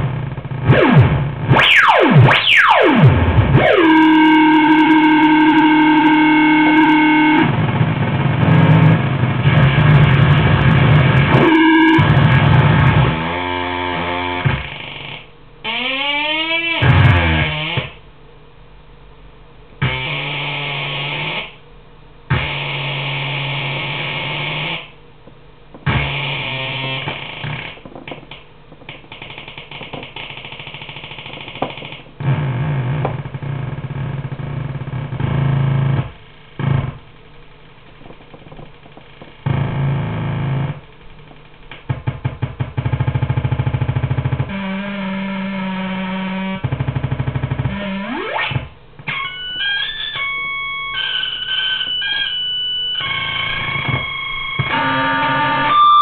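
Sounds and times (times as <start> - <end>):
harsh buzzing electronic tones: 0.0 - 18.0, 19.8 - 21.6, 22.3 - 25.0, 25.8 - 27.8, 29.1 - 56.0.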